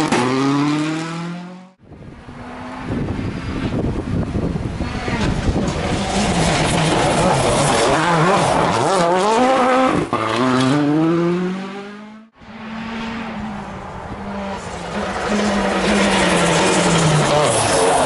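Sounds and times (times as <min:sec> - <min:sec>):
distant rally car engine: 0:00.0 - 0:18.0
rally car engine at full throttle: 0:00.0 - 0:18.0.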